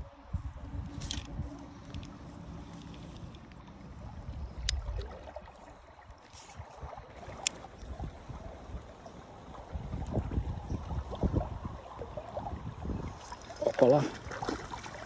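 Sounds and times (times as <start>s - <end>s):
river water flowing: 0.0s - 15.0s
wind rumble on microphone: 0.0s - 15.0s.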